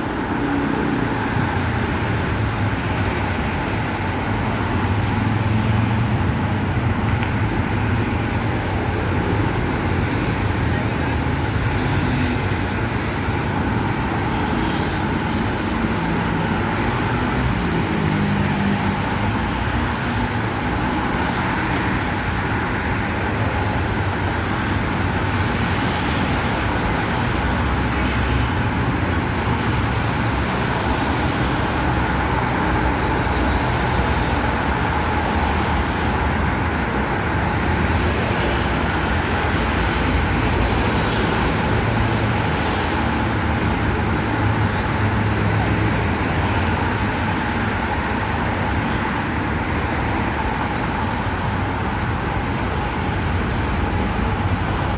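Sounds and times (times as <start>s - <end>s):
vehicle rumble and hiss: 0.0s - 54.9s.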